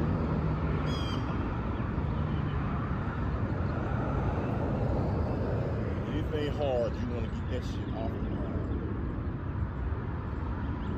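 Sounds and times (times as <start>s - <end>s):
road traffic rumble: 0.0s - 10.9s.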